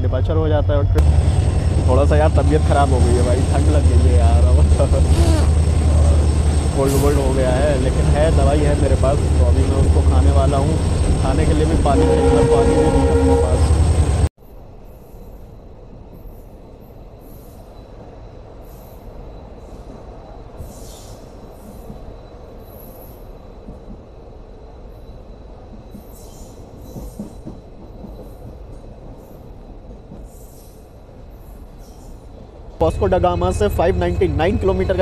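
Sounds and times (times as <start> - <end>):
train wheels rumbling on rails: 0.0 - 14.3, 15.2 - 35.0.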